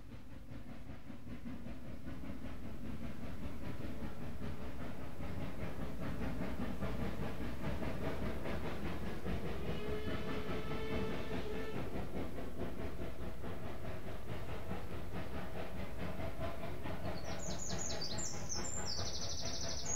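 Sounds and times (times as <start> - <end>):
steam train running: 0.0 - 19.9.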